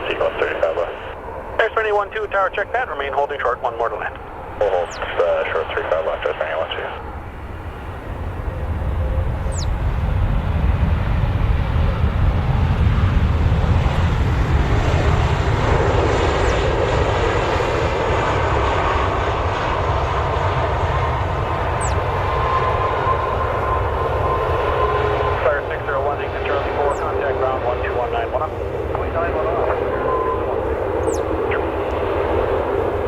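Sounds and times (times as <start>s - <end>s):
jet engines rumbling: 0.0s - 33.0s
steady high whine: 0.0s - 33.0s.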